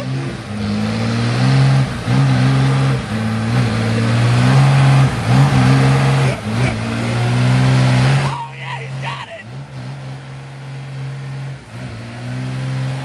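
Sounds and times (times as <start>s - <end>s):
diesel bus engine revving: 0.0s - 13.0s.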